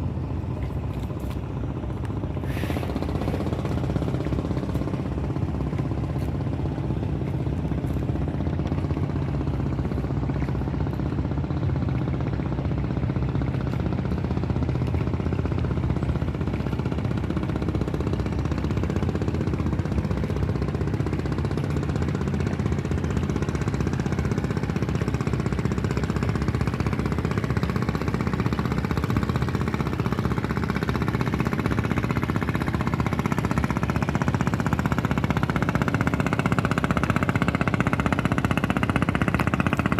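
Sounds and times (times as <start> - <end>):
boat engine knocking: 0.0 - 39.9.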